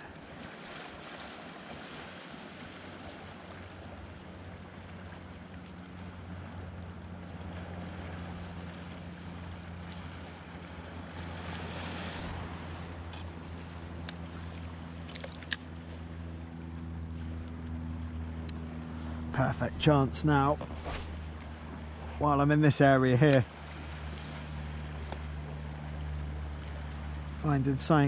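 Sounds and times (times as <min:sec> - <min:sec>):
low steady hum: 0:00.0 - 0:28.0
water moving around kayak: 0:00.0 - 0:28.0.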